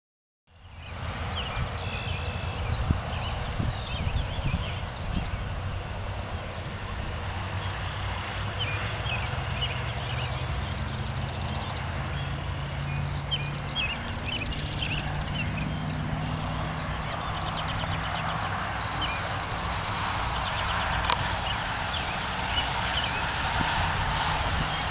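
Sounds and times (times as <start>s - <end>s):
outdoor ambience hum and hiss: 0.5s - 24.9s.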